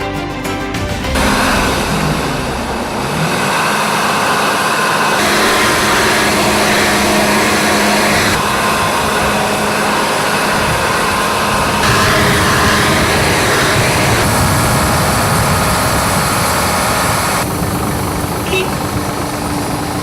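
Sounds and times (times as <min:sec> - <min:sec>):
low hum: 0:00.9 - 0:19.9
heavy machinery engines running: 0:01.0 - 0:20.0.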